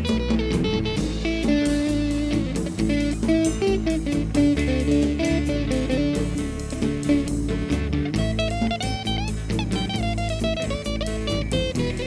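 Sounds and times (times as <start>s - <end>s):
plucked guitar over bass line: 0.0s - 12.0s.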